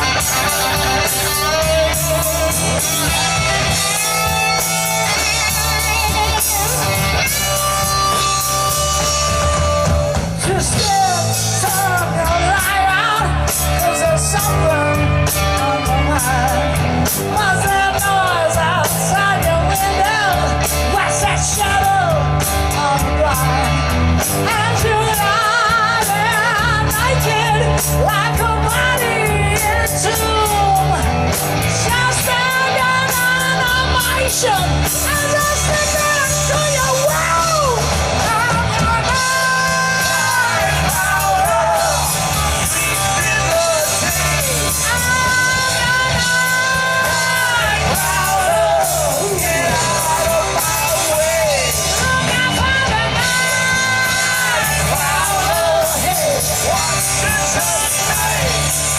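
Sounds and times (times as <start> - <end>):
person singing and yelling: 0.0 - 23.8, 31.8 - 58.9
live rock band playing: 0.0 - 58.9.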